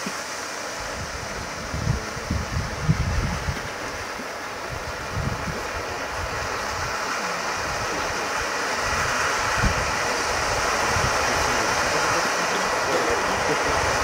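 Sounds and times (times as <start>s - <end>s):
firework fountain hissing: 0.0s - 14.0s.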